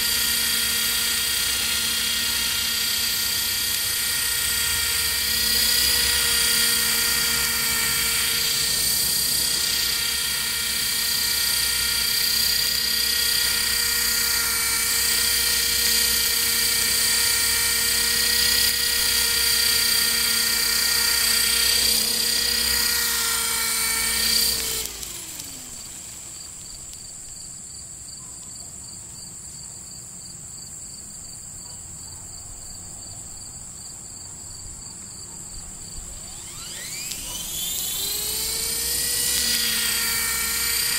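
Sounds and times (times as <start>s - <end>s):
model helicopter high-pitched whine: 0.0s - 28.1s, 32.5s - 40.9s.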